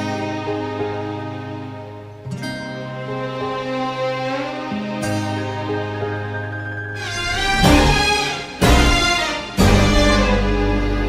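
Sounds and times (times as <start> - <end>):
plucked strings and keyboard: 0.0 - 11.0.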